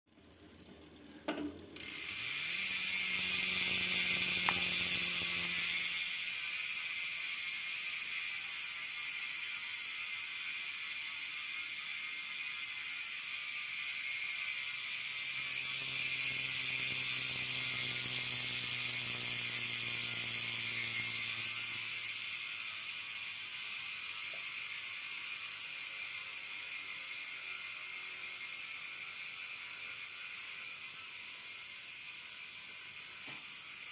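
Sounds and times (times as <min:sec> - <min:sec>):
bicycle freehub ratcheting: 0:01.8 - 0:33.9.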